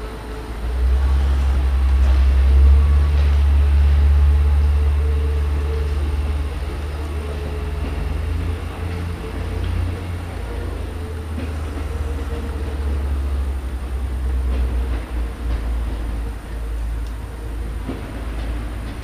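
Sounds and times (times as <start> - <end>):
steady whine: 0.0 - 19.0
train engine deep rumble: 0.0 - 19.0.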